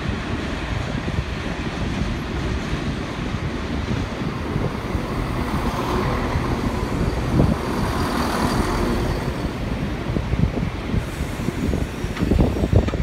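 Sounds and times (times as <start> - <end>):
diesel train rumbling past: 0.0 - 13.0.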